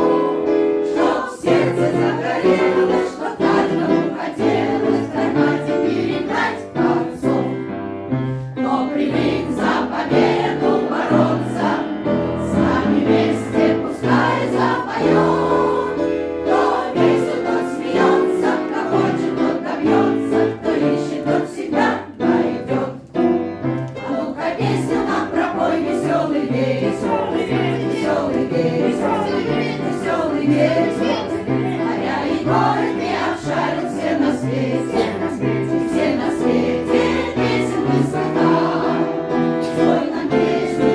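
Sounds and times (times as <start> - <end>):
choir singing: 0.0 - 40.9
instrumental accompaniment: 0.0 - 40.9.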